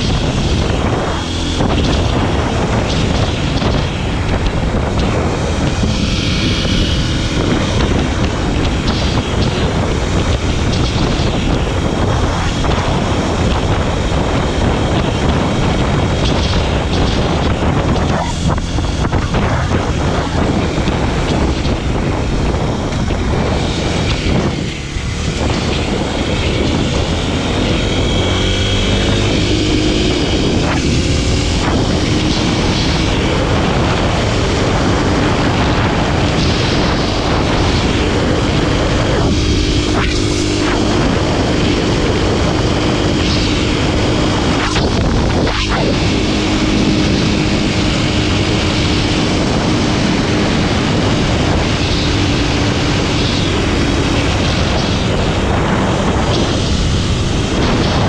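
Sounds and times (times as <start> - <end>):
motorcycle engine running: 0.0 - 58.0
wind rushing: 0.0 - 58.0.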